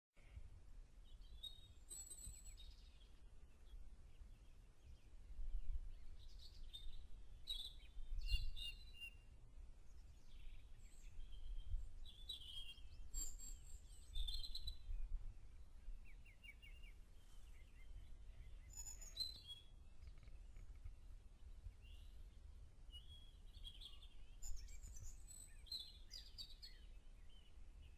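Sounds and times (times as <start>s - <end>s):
songbirds chirping and trilling: 0.2s - 27.9s.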